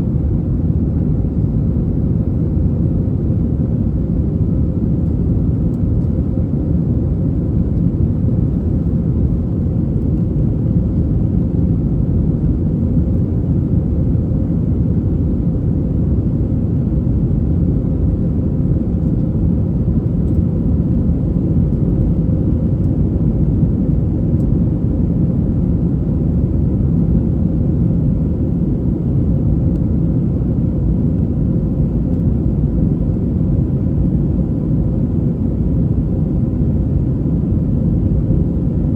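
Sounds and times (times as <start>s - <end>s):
faint constant hum: 0.0s - 38.9s
jet engine and airflow rumble: 0.0s - 38.9s.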